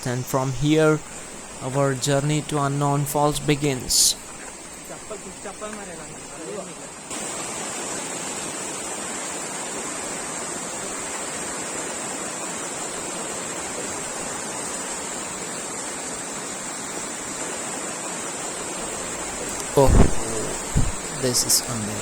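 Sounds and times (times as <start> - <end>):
rushing stream water: 0.0 - 22.0.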